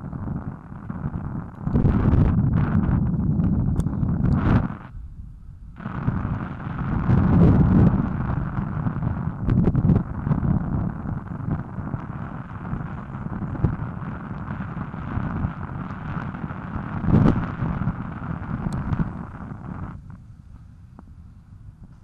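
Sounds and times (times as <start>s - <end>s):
wind buffeting a microphone: 0.0s - 22.0s.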